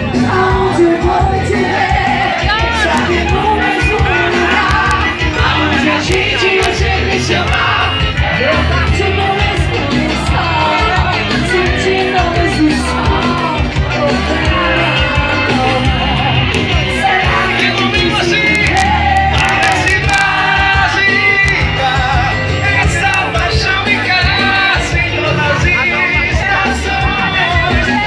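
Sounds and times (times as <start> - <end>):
audience shouting: 0.0 - 28.0
lead singer singing: 0.0 - 28.0
live band music: 0.0 - 28.0.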